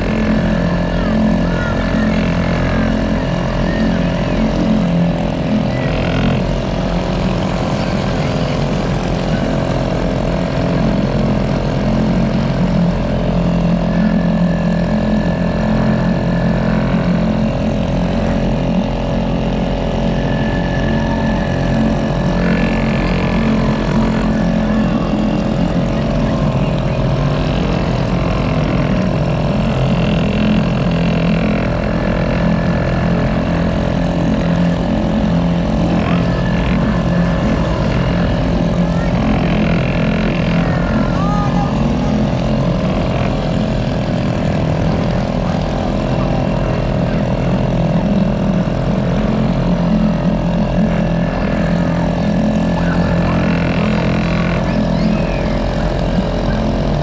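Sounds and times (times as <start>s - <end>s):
small engine humming: 0.0s - 57.0s.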